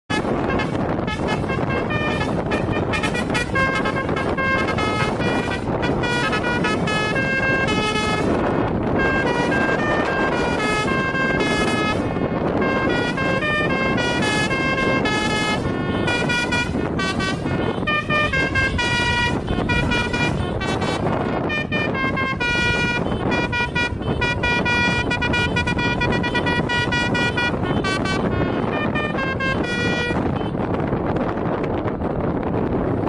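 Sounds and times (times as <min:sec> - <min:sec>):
engine and road rumble: 0:00.0 - 0:33.0
multi-tone bus air horns: 0:00.1 - 0:31.5.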